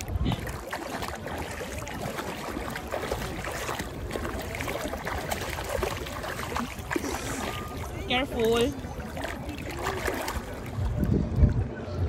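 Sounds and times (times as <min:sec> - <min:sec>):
water splashing around feet: 0:00.0 - 0:11.7
steady wash of water: 0:00.0 - 0:11.8.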